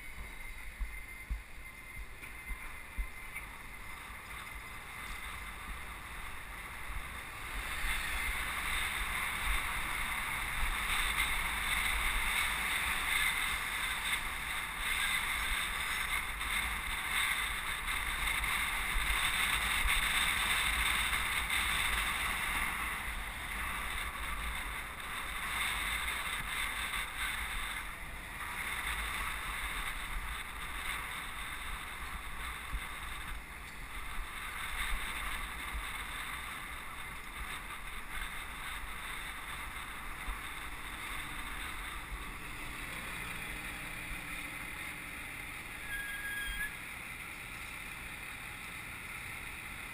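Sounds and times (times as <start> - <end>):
wind rushing on microphone: 0.0 - 46.9
road rumble: 0.0 - 49.9.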